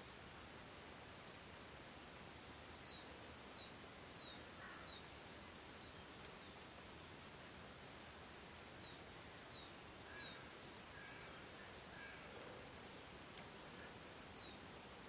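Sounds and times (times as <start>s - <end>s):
steady outdoor hiss: 0.0s - 15.0s
small birds chirping: 1.2s - 15.0s.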